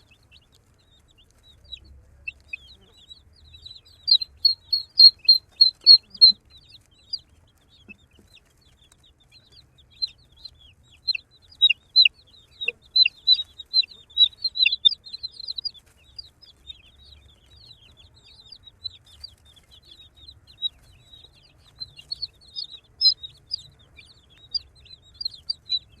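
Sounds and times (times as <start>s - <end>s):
baby chicks peeping: 0.0s - 26.0s.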